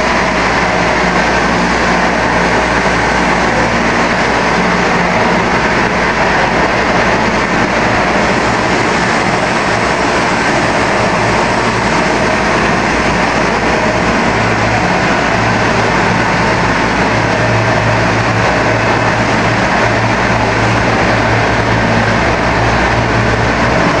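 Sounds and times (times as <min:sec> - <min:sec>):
factory machinery din: 0:00.0 - 0:24.0
low machine hum: 0:00.0 - 0:24.0.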